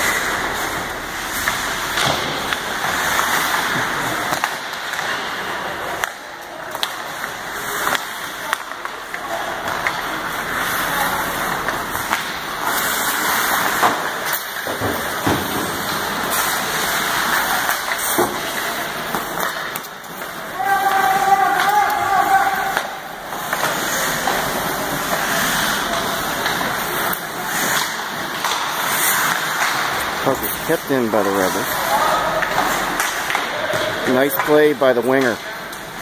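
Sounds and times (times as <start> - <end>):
hockey sticks and puck clacking: 0.0 - 36.0
skates scraping on ice: 0.0 - 36.0.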